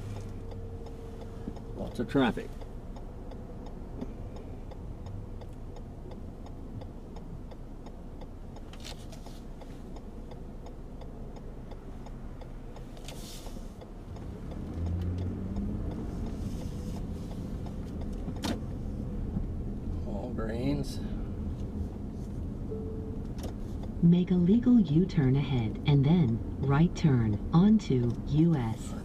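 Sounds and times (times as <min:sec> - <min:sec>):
car engine and road rumble: 0:00.0 - 0:29.0
turn signal ticking: 0:00.0 - 0:29.0.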